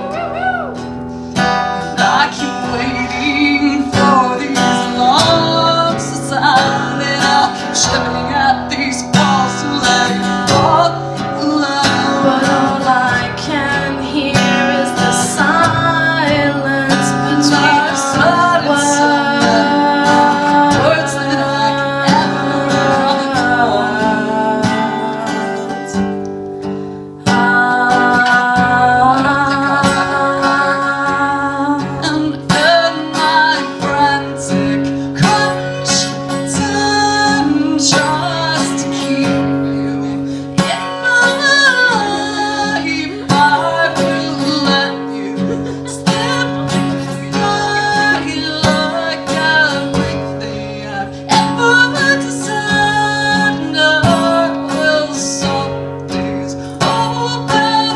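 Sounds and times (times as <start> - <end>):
strummed acoustic guitar: 0.0 - 57.9.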